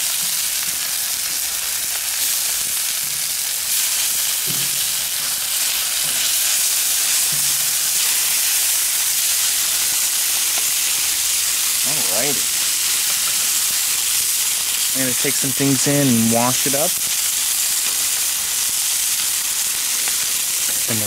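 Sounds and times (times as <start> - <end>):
chicken sizzling on a griddle: 0.0 - 21.0.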